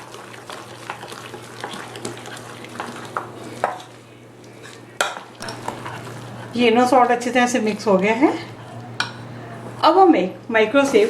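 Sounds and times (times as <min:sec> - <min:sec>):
batter being stirred in a bowl: 0:00.0 - 0:04.0, 0:04.6 - 0:09.9.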